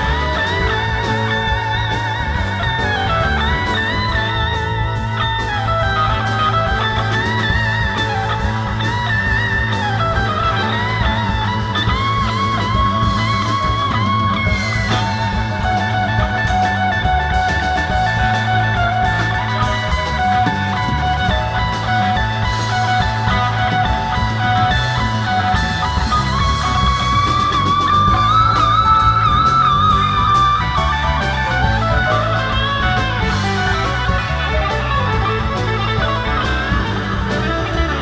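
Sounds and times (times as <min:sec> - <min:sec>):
bass guitar: 0:00.0 - 0:38.0
drums: 0:00.0 - 0:38.0
electric guitar solo with vibrato: 0:00.0 - 0:38.0.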